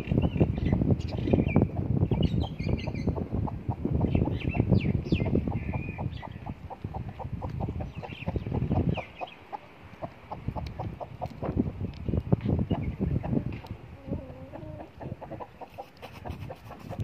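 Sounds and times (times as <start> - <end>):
chickens clucking: 0.0 - 11.8, 12.4 - 17.0.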